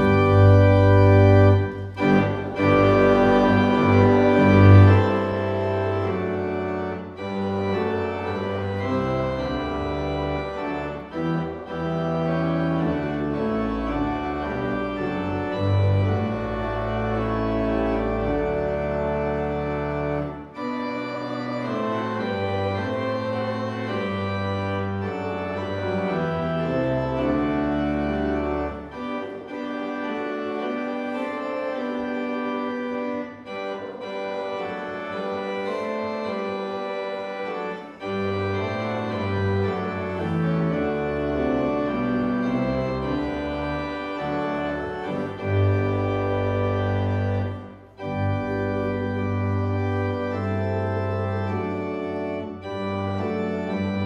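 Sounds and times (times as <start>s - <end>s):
organ playing sustained chords: 0.0s - 54.0s.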